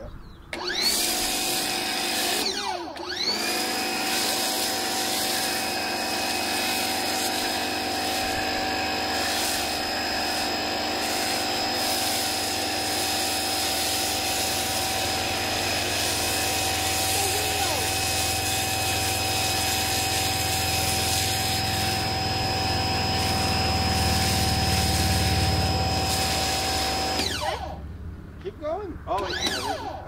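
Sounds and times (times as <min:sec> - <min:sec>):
pressure washer motor whine: 0:00.5 - 0:28.0, 0:29.1 - 0:30.0.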